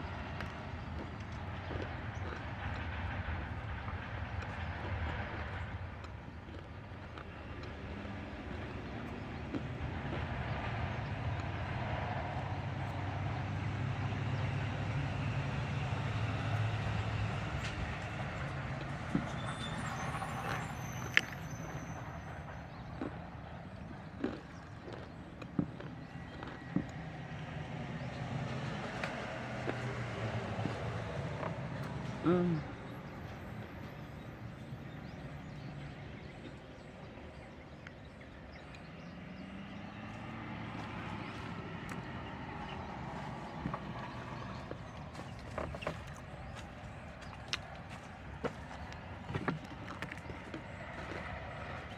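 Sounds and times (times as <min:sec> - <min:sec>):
heavy truck passing: 0:00.0 - 0:37.4, 0:38.2 - 0:51.9
distant vehicle engine humming: 0:00.0 - 0:51.9
outdoor background noise: 0:00.0 - 0:51.9.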